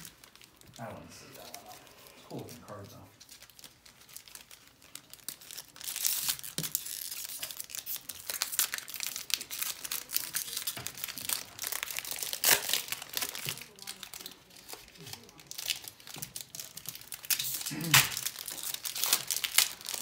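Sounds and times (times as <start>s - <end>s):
wrappers tearing and crinkling: 0.0s - 20.0s.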